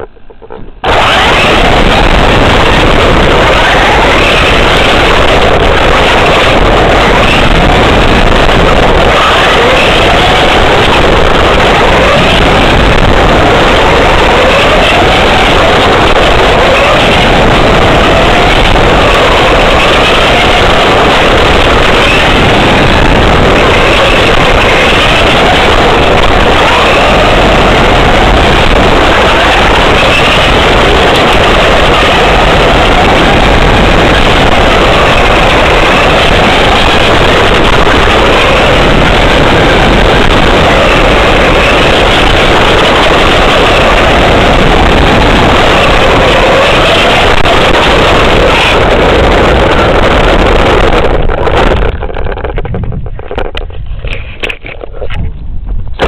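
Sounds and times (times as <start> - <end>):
rc car engine revving: 0.9 - 52.6.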